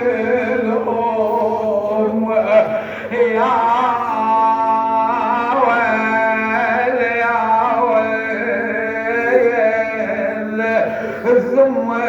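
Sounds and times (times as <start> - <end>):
man singing a lament: 0.0 - 12.0.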